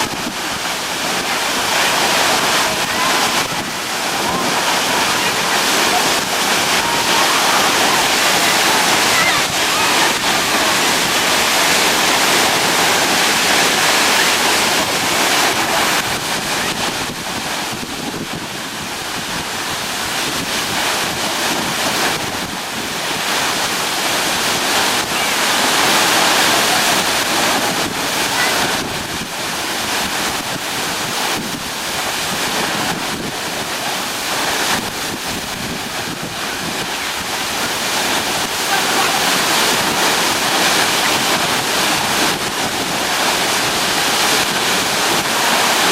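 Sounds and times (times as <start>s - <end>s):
river white water rushing: 0.0s - 45.9s.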